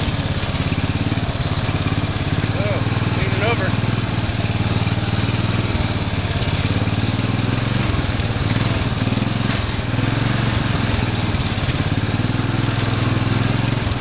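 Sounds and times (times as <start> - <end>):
riding mower engine running: 0.0 - 14.0.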